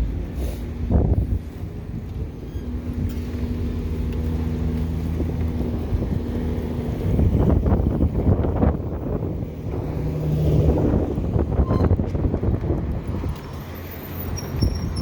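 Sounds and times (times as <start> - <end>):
wind rushing over microphone: 0.0 - 4.0, 4.6 - 15.0.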